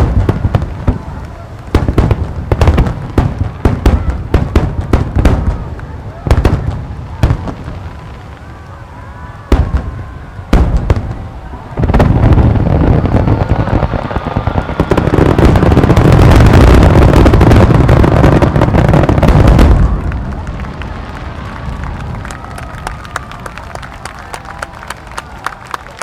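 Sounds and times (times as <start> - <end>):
fireworks booming and crackling: 0.0 - 25.9.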